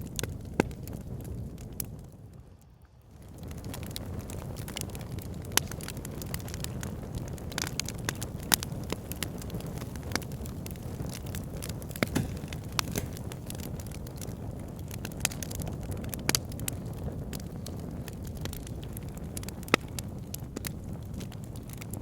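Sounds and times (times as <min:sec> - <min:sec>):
fire crackling and popping: 0:00.0 - 0:22.0
low rush of flame: 0:00.0 - 0:22.0.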